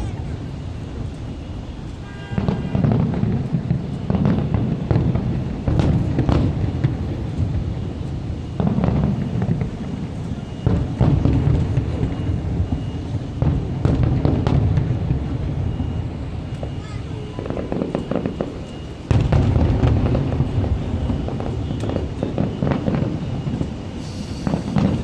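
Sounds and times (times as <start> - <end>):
fireworks booming: 0.0 - 25.0.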